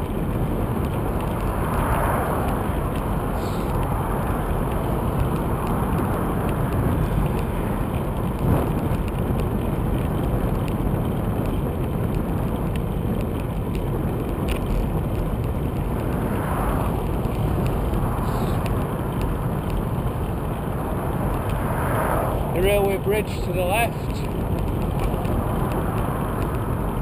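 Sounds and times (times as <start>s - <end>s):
bicycle tyre and road noise: 0.0s - 27.0s
wind over microphone: 0.0s - 27.0s.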